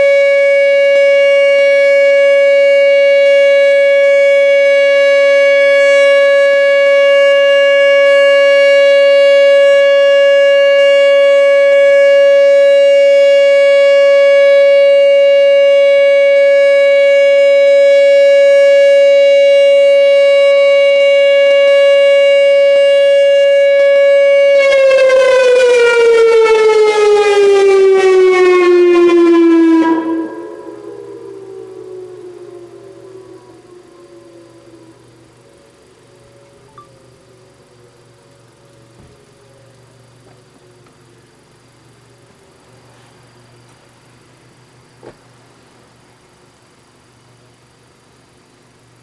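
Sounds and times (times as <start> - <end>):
electronic warning siren: 0.0 - 40.0.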